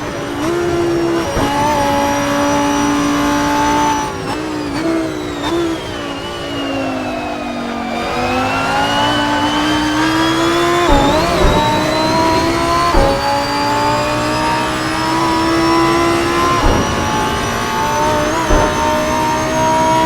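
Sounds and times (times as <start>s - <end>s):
gear change thump: 0.0s - 6.4s, 8.0s - 20.0s
car engine accelerating hard: 0.0s - 20.0s.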